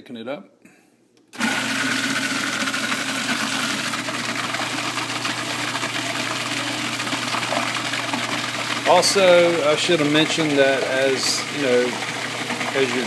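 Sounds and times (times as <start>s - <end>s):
blade grinding thick mixture: 1.4s - 13.0s
food processor motor running: 1.4s - 13.0s.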